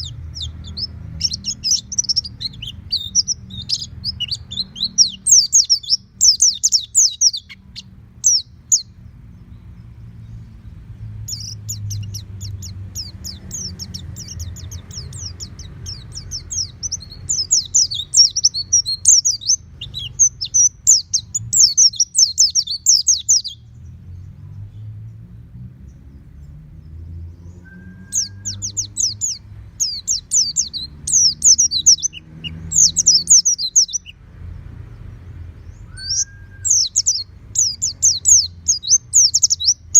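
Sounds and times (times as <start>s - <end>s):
bird chirping warbles: 0.0s - 25.2s, 25.8s - 39.9s.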